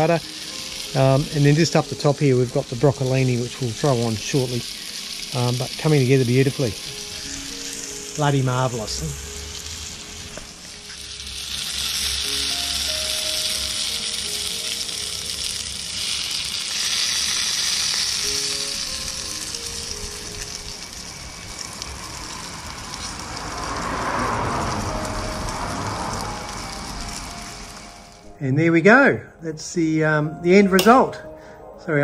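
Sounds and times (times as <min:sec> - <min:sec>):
vegetables sizzling on hotplate: 0:00.0 - 0:28.3.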